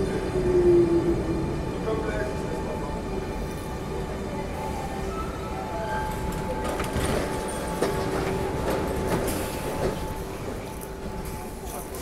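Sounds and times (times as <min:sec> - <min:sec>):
train rumbling hum with tones: 0:00.0 - 0:12.0.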